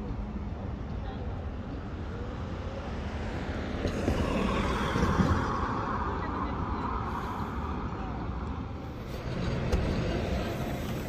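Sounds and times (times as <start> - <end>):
diesel bus approaching: 0.0 - 11.0
low traffic rumble: 0.0 - 11.0.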